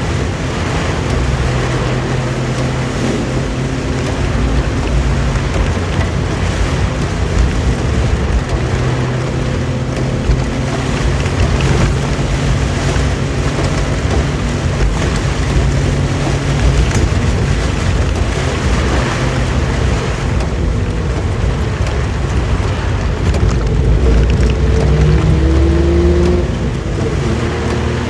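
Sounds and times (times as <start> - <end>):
car engine running: 0.0 - 28.0
heavy rain: 0.0 - 28.0.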